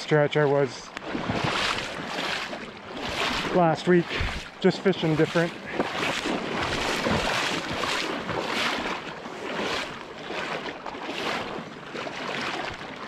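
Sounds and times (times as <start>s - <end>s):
stream rushing: 0.0s - 13.0s
waders swishing through water: 0.0s - 13.0s.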